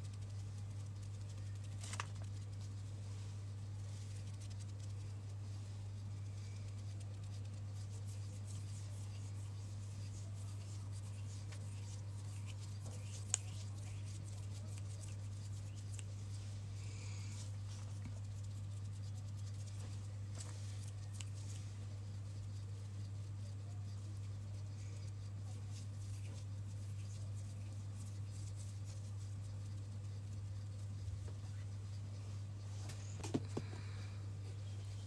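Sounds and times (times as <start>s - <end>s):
fingers ticking and rustling: 0.0s - 16.8s, 17.5s - 32.6s
steady low hum: 0.0s - 35.0s.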